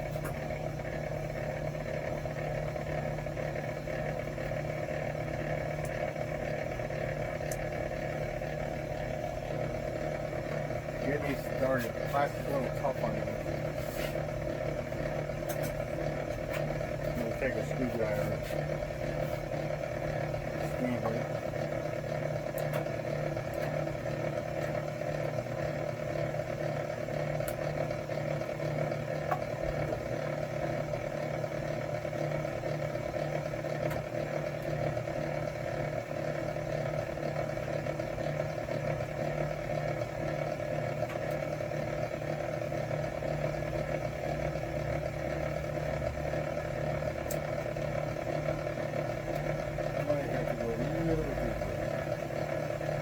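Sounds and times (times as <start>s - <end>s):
machine motor hum: 0.0s - 53.0s.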